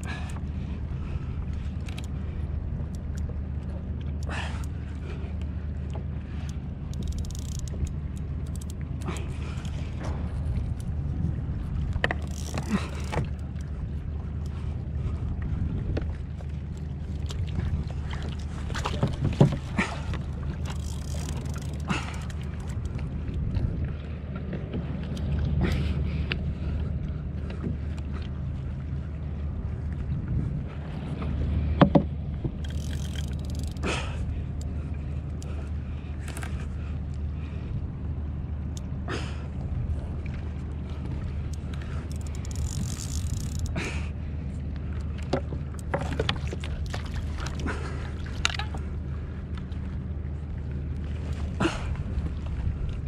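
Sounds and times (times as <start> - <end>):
water against kayak hull: 0.0 - 53.0
wind rumbling on microphone: 0.0 - 53.0.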